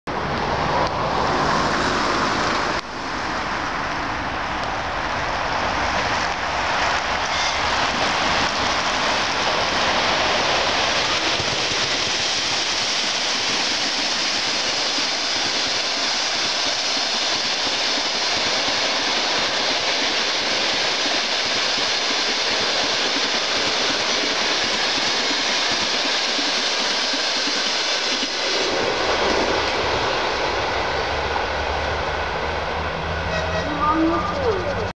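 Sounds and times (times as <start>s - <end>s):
train wheels rushing on rails: 0.1s - 34.9s.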